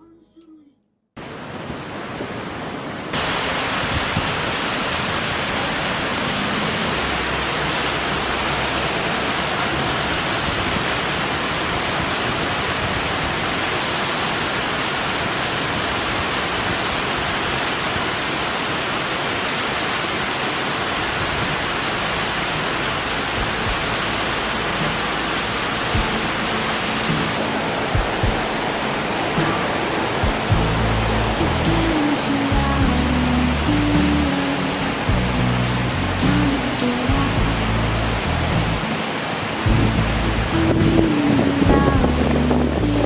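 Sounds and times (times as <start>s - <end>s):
rushing water: 1.2s - 43.0s.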